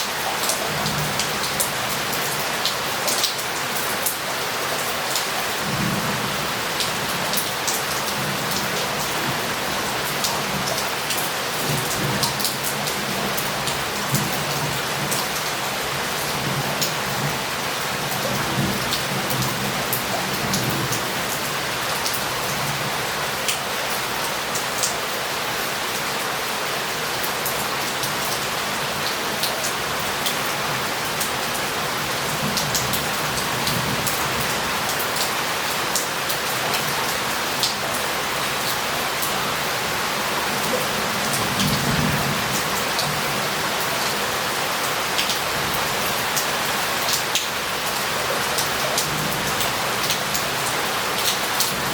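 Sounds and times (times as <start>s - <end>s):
heavy rain on roof tiles: 0.0s - 51.9s.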